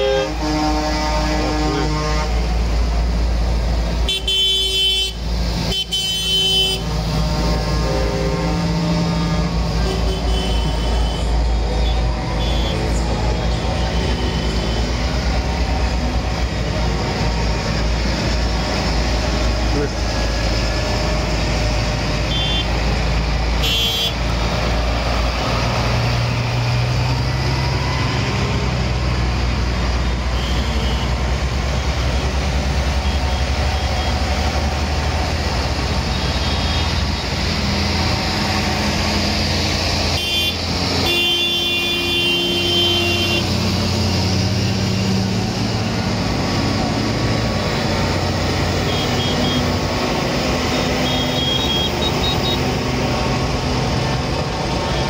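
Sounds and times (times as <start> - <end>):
tractor diesel engines passing: 0.0 - 55.0.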